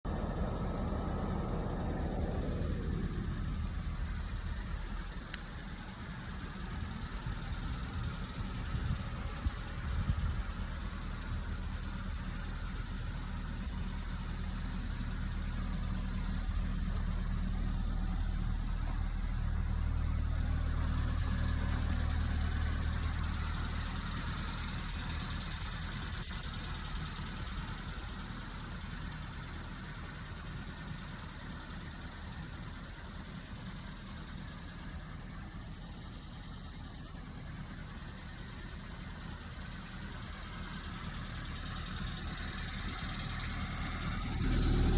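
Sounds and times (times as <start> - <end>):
pickup truck engine running: 0.0 - 44.9.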